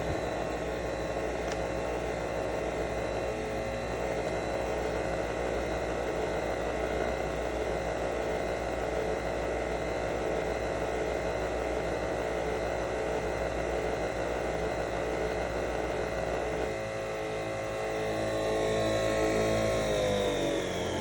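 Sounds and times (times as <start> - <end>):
coffee machine motor whirring: 0.0 - 21.0.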